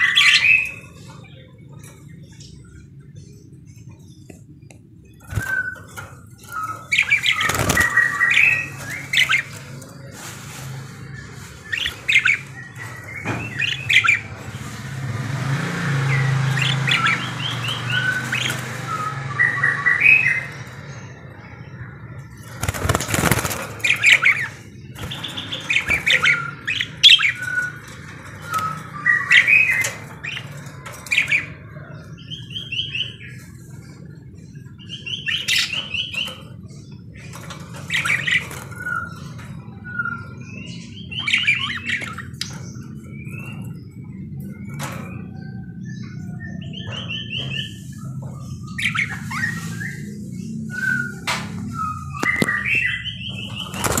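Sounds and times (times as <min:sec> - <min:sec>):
parakeets chattering: 0:00.0 - 0:51.0, 0:51.6 - 0:54.0.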